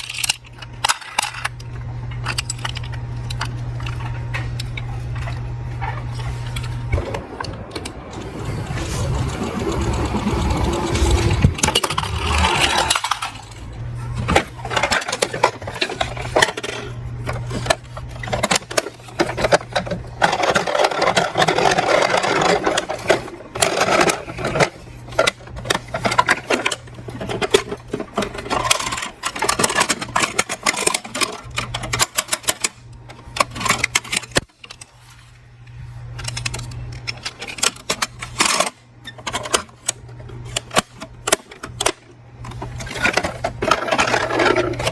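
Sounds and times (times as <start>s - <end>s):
toy cars clattering on plastic: 0.0s - 7.2s, 9.3s - 35.3s, 36.1s - 44.9s
steady low hum: 0.0s - 44.9s.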